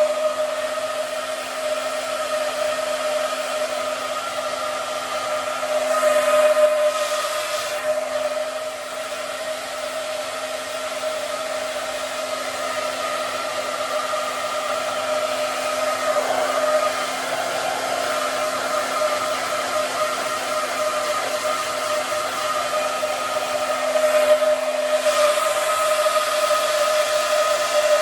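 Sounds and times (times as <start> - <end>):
hair dryer running: 0.0 - 28.0.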